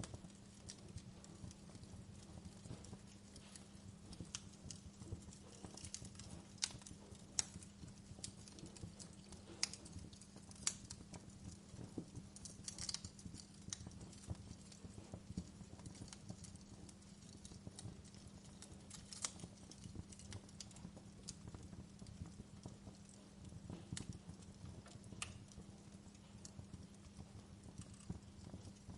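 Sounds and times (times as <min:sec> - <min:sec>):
low steady hum: 0:00.0 - 0:28.9
wood fire crackling: 0:00.0 - 0:28.9.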